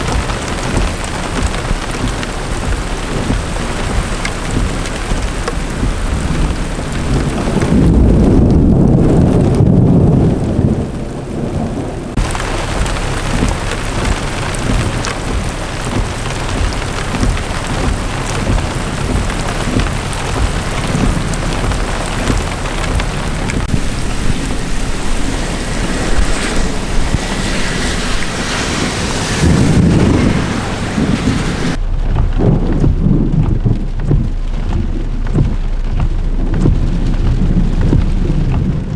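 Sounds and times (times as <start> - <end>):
heavy rain pouring: 0.0 - 38.9
thunder rumbling: 0.0 - 38.9.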